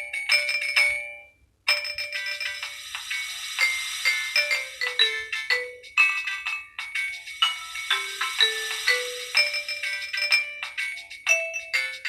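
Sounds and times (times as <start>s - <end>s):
synthesized ringtone melody: 0.0s - 12.0s.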